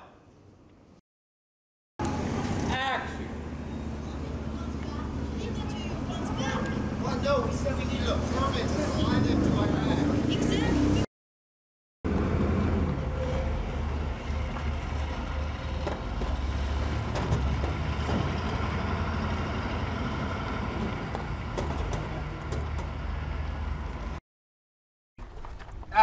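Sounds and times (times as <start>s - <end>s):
vehicle engines rumbling: 2.0s - 11.1s, 12.1s - 24.2s.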